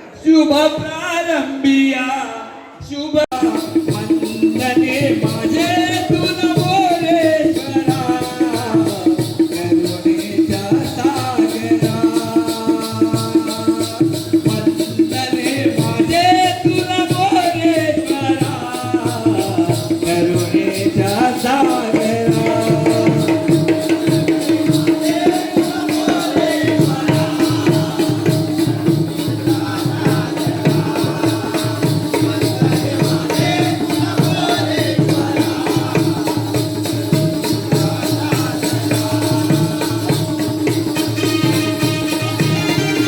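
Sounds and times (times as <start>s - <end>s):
hand drum beating: 3.3s - 43.0s.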